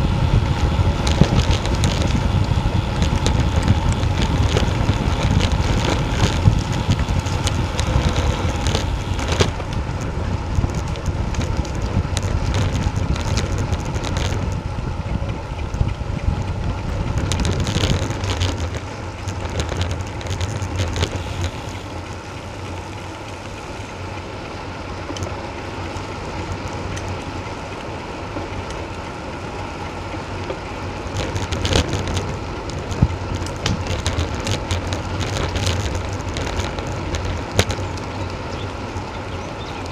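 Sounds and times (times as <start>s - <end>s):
wind rushing over microphone: 0.0s - 22.8s, 30.3s - 39.9s
tyre road noise: 0.0s - 39.9s.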